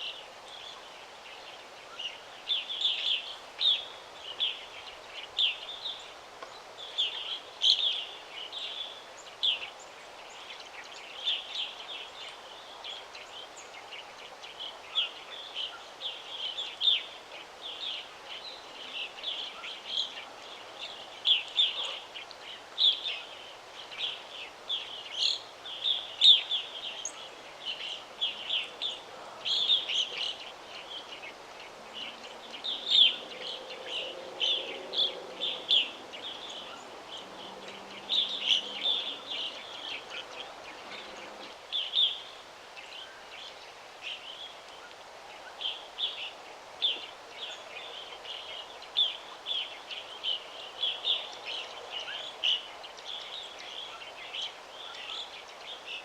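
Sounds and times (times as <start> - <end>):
soft background hiss: 0.0 - 56.0
songbirds chirping: 0.0 - 56.0.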